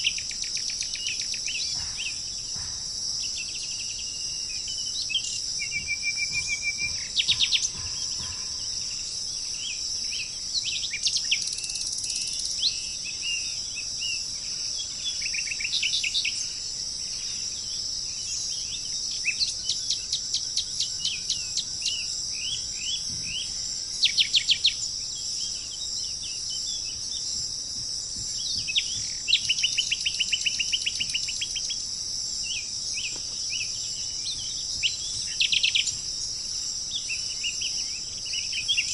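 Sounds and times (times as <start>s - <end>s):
crickets chirping: 0.0s - 38.9s
songbirds chirping and trilling: 0.0s - 38.9s.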